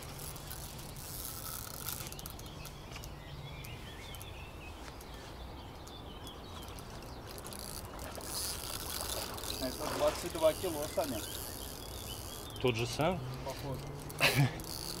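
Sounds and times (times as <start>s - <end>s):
faint clicks: 0.0s - 12.8s
songbird chirping and warbling: 0.0s - 15.0s.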